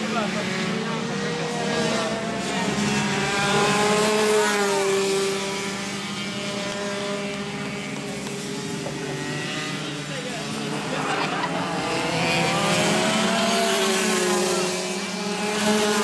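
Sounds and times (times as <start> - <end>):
kart engines racing: 0.0 - 16.0.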